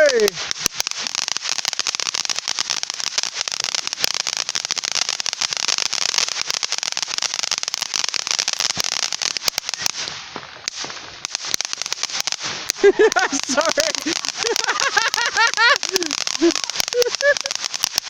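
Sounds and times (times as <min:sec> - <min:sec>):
firework crackling pops: 0:00.0 - 0:18.0
firework hiss: 0:00.0 - 0:18.0.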